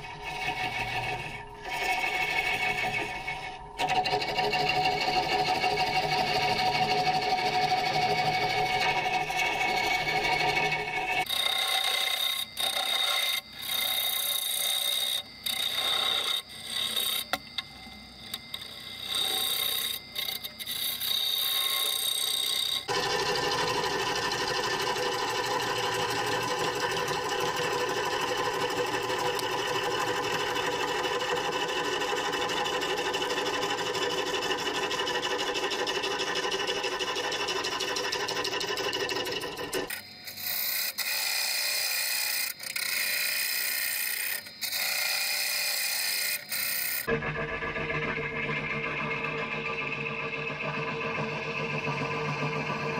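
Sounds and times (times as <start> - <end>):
lathe tool cutting wood: 0.0 - 17.6, 18.3 - 47.2.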